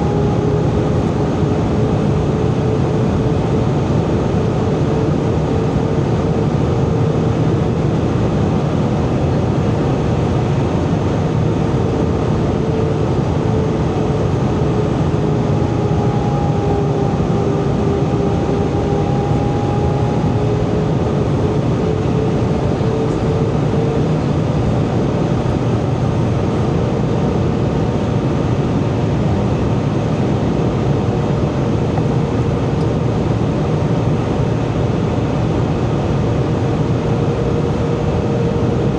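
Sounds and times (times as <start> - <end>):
faint engine hum: 0.0 - 38.9
rush of engines and airflow: 0.0 - 38.9.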